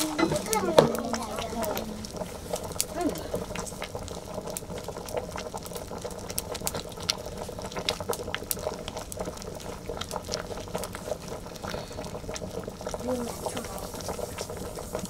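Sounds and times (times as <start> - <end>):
liquid bubbling in pot: 0.0 - 15.0
wood fire crackling and popping: 0.0 - 15.0.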